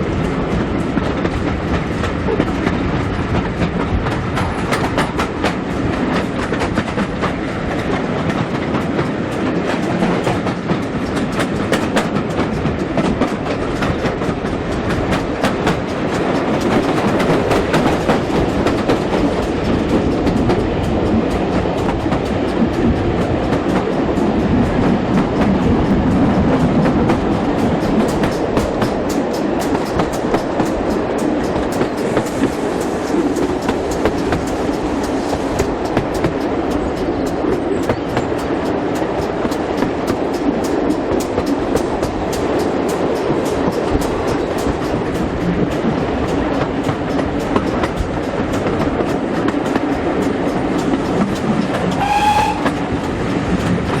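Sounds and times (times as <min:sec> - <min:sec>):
carriage wheels rumbling on track: 0:00.0 - 0:54.0
clicks over rail joints: 0:00.2 - 0:54.0.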